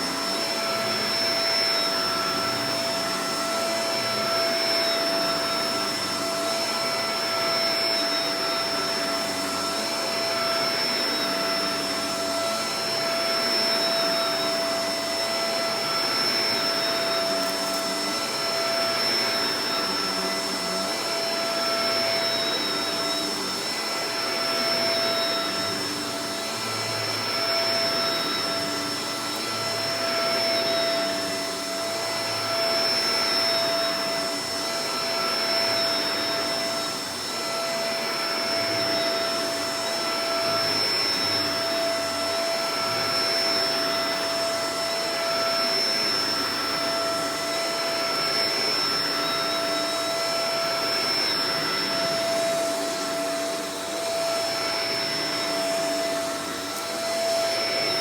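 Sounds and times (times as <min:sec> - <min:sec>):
upright vacuum running: 0:00.0 - 0:58.0.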